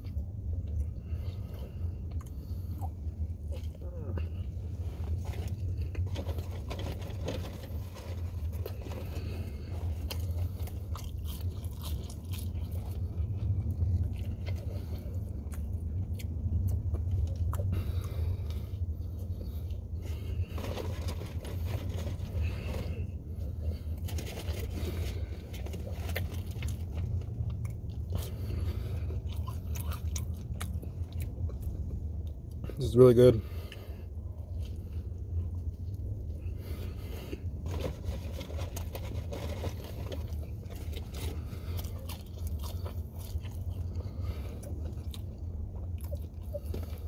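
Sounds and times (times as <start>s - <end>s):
person chewing: 0.0s - 32.8s, 33.5s - 47.0s
low hum in car cabin: 0.0s - 47.0s.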